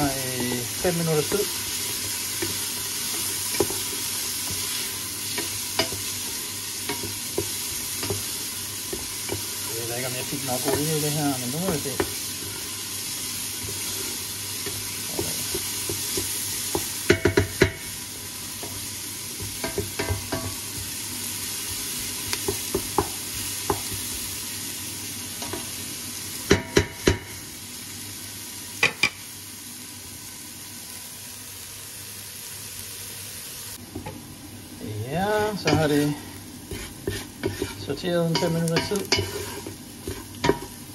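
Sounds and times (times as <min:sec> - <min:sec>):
vegetables sizzling in oil: 0:00.0 - 0:40.9.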